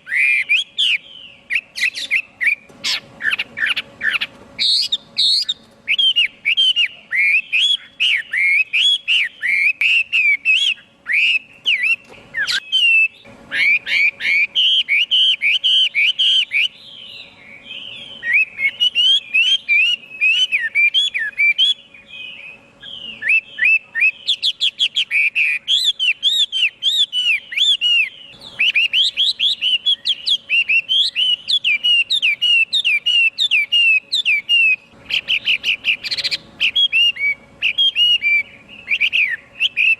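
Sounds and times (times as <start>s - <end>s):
bird singing whistled notes: 0.0s - 39.9s
faint steady hum: 0.0s - 39.9s.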